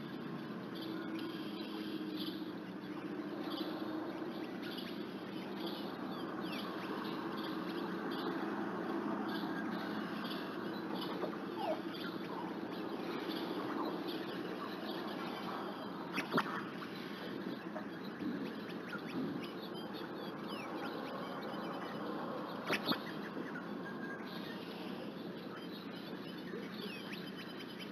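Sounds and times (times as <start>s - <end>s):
small birds chirping: 0.0s - 27.9s
steady outdoor hiss: 0.0s - 27.9s.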